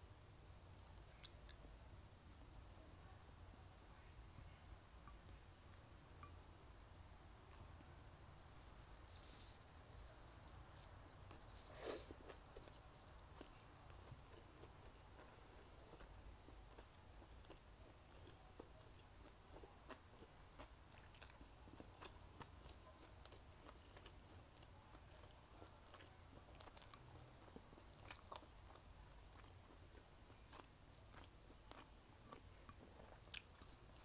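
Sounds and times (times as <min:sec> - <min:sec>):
faint chewing with mouth closed: 0:00.6 - 0:01.8, 0:05.0 - 0:06.4, 0:08.4 - 0:34.0.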